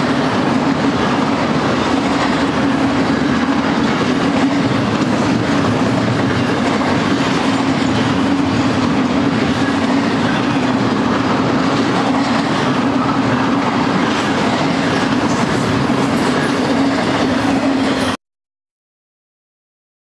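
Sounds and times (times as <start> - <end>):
freight train wheels rumbling: 0.0 - 18.2.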